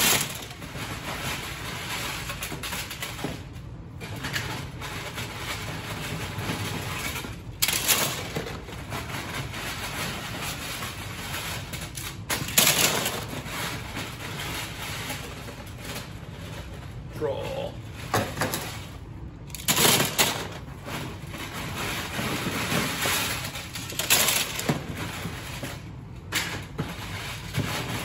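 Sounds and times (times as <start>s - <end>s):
toy bricks clattering: 0.0s - 28.0s.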